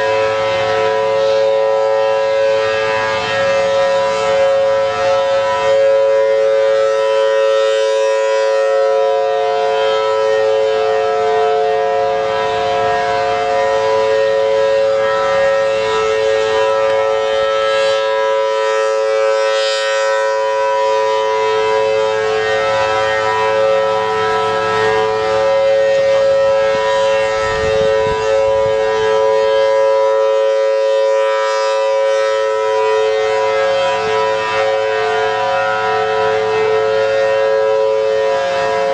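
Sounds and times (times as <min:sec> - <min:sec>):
rotating siren two-note chord: 0:00.0 - 0:38.9.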